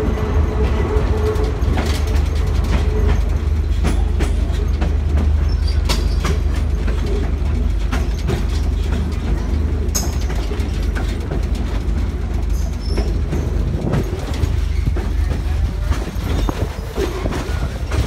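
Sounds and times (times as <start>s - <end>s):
train rumble: 0.0s - 18.0s
wheels clicking on rails: 0.0s - 18.0s.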